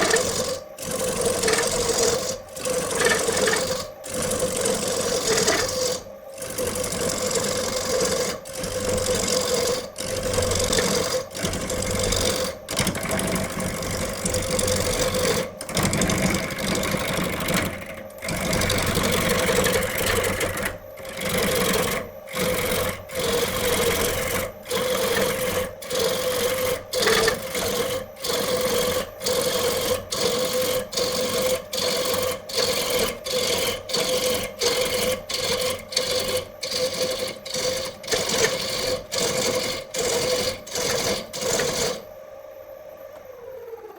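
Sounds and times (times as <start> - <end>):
tool rasping against wood: 0.0 - 42.0
power tool humming: 0.0 - 42.1.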